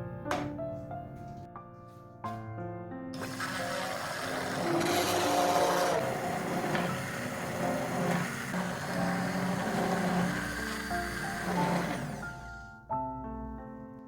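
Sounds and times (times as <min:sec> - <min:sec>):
background music with held notes: 0:00.0 - 0:14.0.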